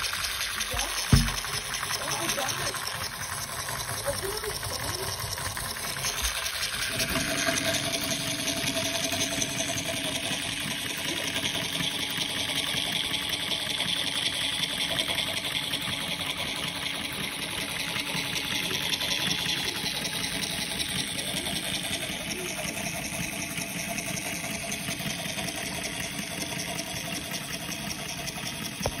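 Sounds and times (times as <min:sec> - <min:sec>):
rapid mechanical clatter: 0:00.0 - 0:29.0
small electric motor whining: 0:00.0 - 0:29.0.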